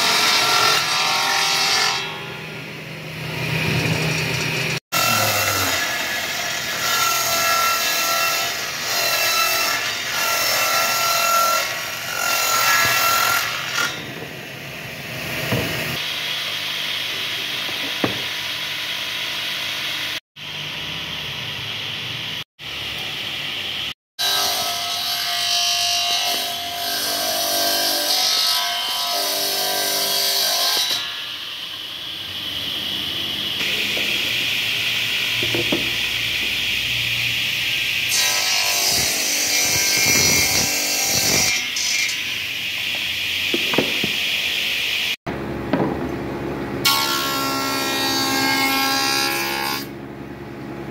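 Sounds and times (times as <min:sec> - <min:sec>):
table saw cutting wood: 0:00.0 - 0:45.2, 0:46.8 - 0:50.0.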